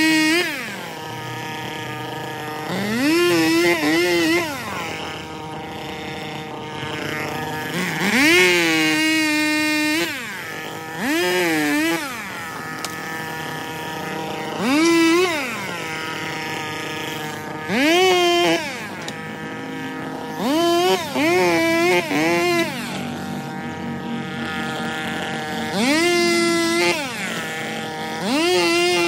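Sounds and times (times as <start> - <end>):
chainsaw idling: 0.0 - 29.0
chainsaw revving: 0.0 - 29.0.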